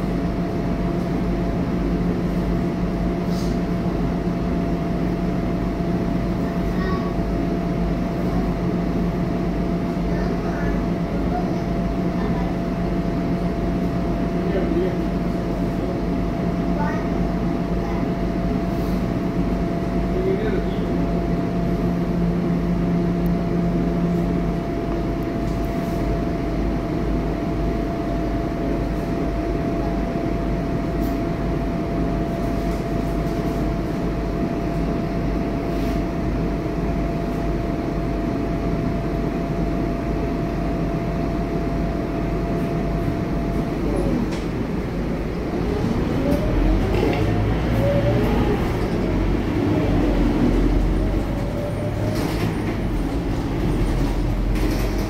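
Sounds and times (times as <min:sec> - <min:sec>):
bus diesel engine hum: 0:00.0 - 0:55.0.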